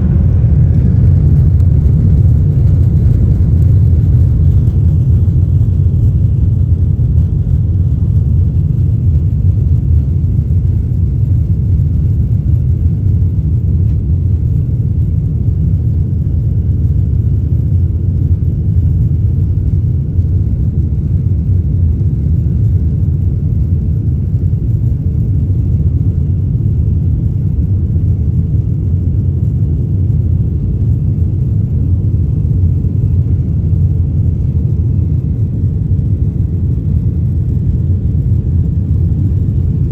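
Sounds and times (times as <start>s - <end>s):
airflow over fuselage: 0.0s - 39.9s
jet engines rumbling: 0.0s - 39.9s.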